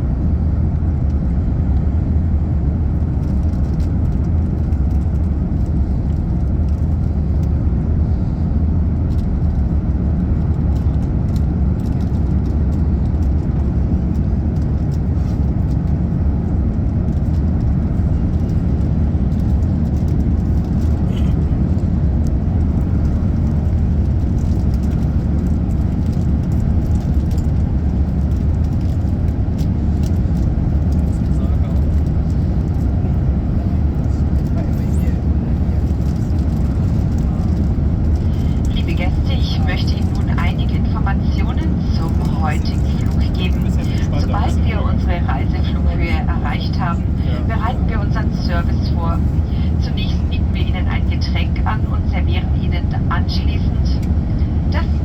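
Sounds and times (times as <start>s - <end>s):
aircraft cabin rumble: 0.0s - 55.0s.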